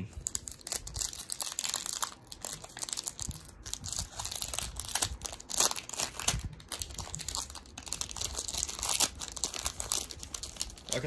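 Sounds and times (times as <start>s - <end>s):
foil wrapper crinkling and tearing: 0.1s - 11.0s.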